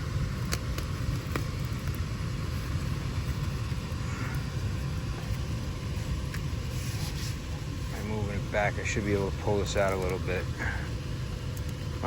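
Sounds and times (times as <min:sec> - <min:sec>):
blower fan running with low rumble: 0:00.0 - 0:12.0.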